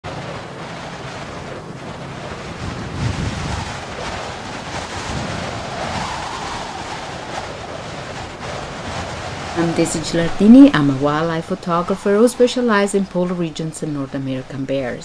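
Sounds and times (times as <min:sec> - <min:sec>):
wind blowing hard: 0:00.0 - 0:15.0
wind buffeting microphone: 0:00.0 - 0:15.0.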